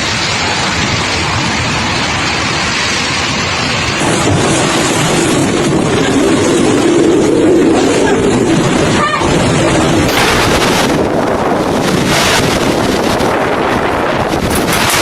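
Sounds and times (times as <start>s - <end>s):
deep rumble: 0.0s - 15.0s
heavy rain pouring: 0.0s - 15.0s.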